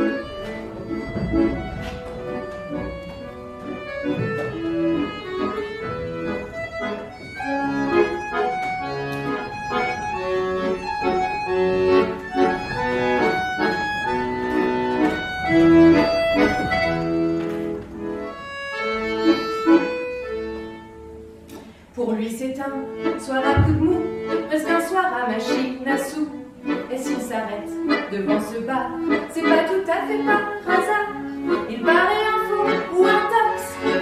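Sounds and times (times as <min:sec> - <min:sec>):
accordion playing a tune: 0:00.0 - 0:34.0.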